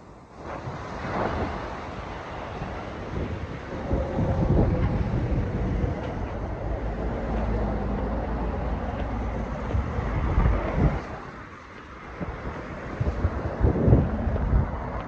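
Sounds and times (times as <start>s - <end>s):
traffic: 0.0s - 15.0s
wind rumbling on microphone: 0.0s - 15.0s.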